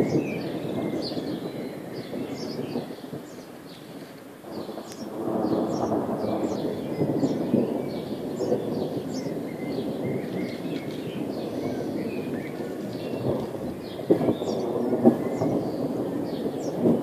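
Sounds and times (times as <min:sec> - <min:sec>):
birds chirping: 0:00.0 - 0:17.0
thunder rumbling: 0:00.0 - 0:17.0.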